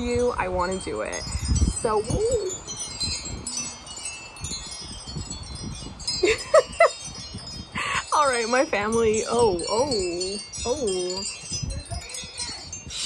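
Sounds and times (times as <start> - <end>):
metal wind chime ringing: 0.0 - 13.0.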